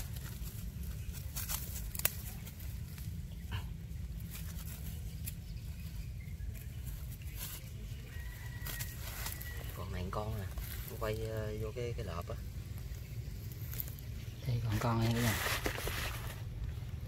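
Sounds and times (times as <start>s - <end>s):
rustling of sack and dry leaves: 0.0s - 17.0s
steady low rumble: 0.0s - 17.0s.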